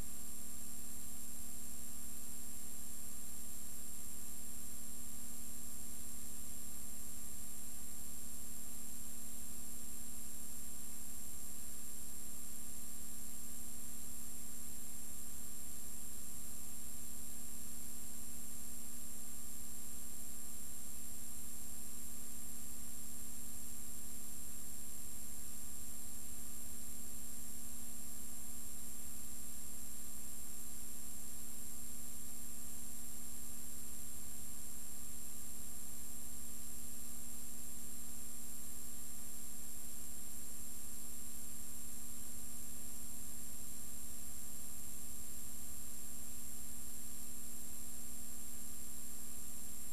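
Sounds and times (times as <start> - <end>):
electrical hum and hiss: 0.0 - 49.9.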